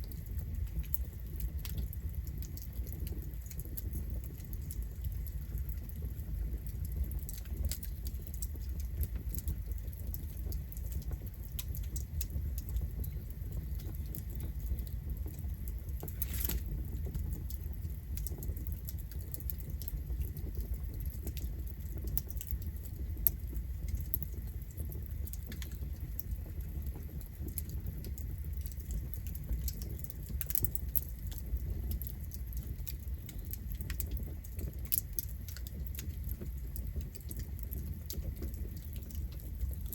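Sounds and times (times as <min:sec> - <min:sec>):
campfire burning: 0:00.0 - 0:39.9.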